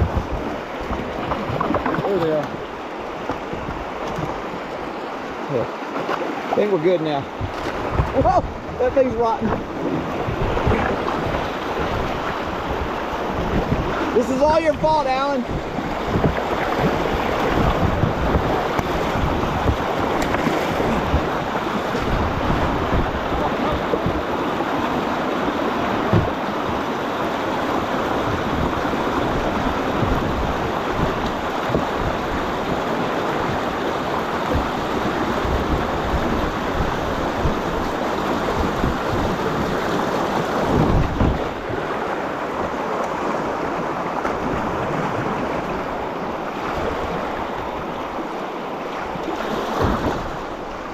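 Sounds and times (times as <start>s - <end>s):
wind buffeting microphone: 0.0s - 5.0s, 7.1s - 48.2s, 48.9s - 50.9s
river water rushing: 0.0s - 50.9s.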